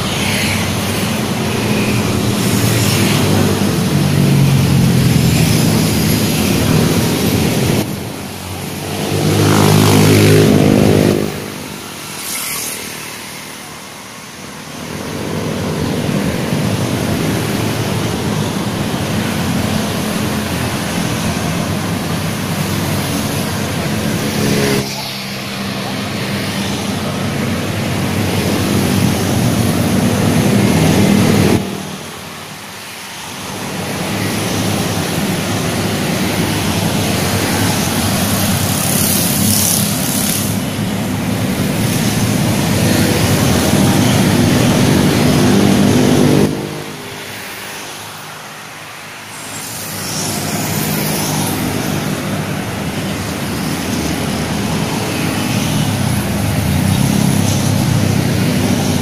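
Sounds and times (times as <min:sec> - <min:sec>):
motorcycle and car traffic: 0:00.0 - 0:59.0.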